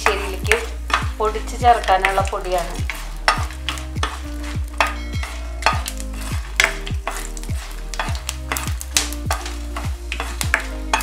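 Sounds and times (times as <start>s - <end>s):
spices sizzling: 0.0s - 11.0s
wooden spatula scraping pan: 0.0s - 11.0s.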